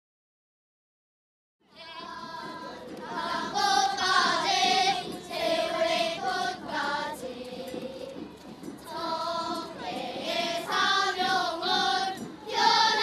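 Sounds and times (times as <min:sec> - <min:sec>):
children's choir singing: 0:01.7 - 0:13.0.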